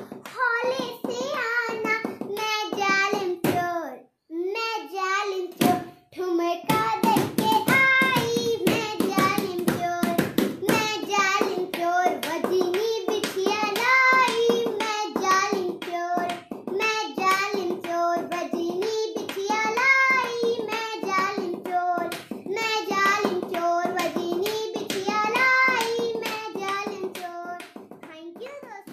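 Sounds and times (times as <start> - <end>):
hand claps: 0.0 - 3.7, 6.7 - 28.9
girl singing folk song: 0.0 - 28.9.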